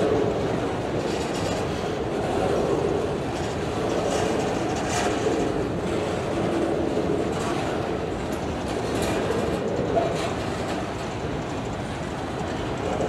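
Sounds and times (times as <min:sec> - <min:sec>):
train cars rolling on rails: 0:00.0 - 0:13.0.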